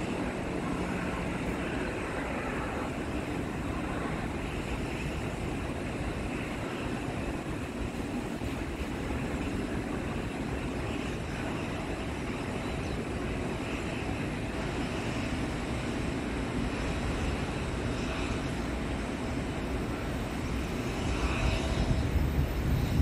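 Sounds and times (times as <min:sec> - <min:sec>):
aircraft engines rumbling: 0:00.0 - 0:23.0.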